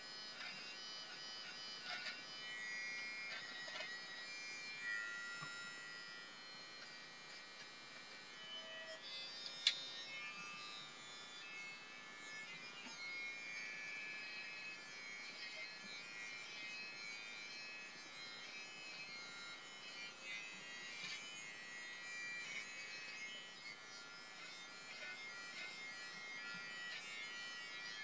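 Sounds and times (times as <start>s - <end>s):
beard trimmer whining: 0.0s - 28.0s.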